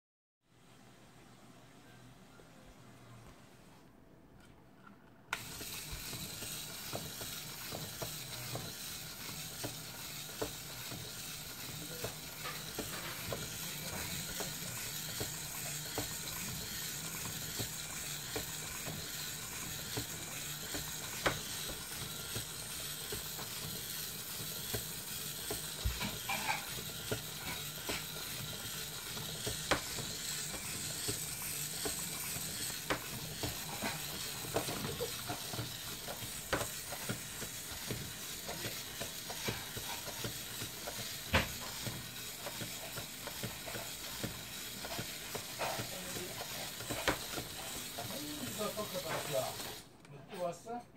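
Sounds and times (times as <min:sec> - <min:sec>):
electric motor whirring: 0:05.4 - 0:49.9.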